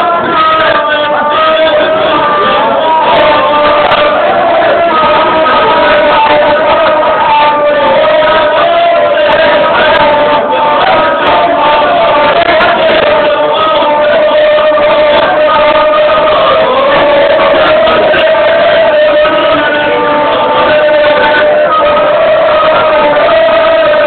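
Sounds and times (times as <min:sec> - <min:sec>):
person chanting: 0:00.0 - 0:24.0.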